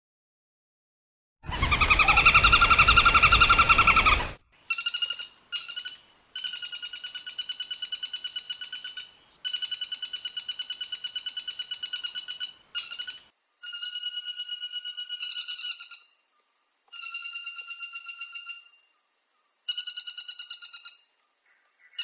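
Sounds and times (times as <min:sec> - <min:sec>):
woodpecker trilling calls: 0:01.5 - 0:19.0, 0:19.7 - 0:22.0.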